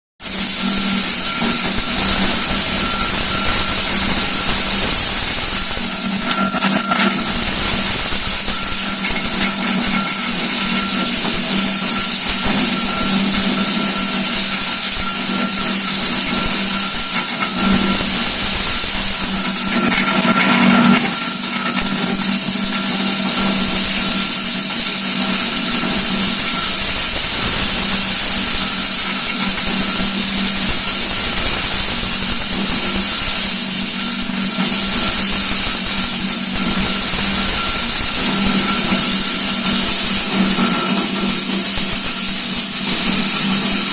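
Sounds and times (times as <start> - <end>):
forage chopper running: 0.2 - 43.9.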